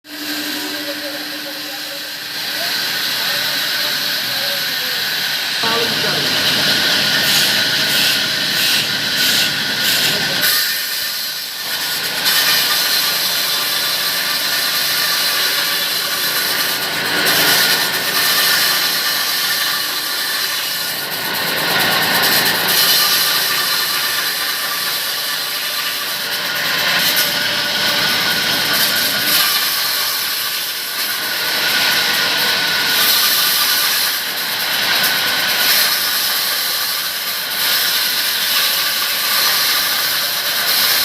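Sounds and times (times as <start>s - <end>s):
saw cutting wood: 0.0s - 41.0s.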